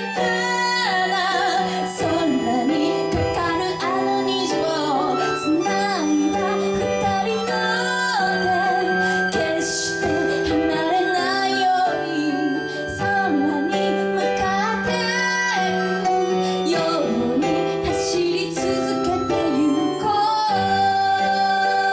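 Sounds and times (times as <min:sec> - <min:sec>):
instrumental accompaniment: 0:00.0 - 0:21.9
woman singing: 0:00.0 - 0:21.9.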